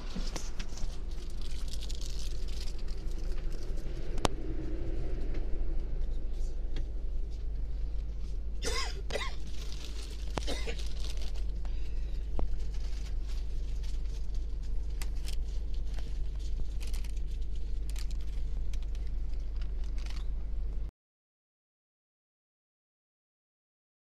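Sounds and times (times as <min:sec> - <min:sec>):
low rumble inside coach cabin: 0:00.0 - 0:20.9.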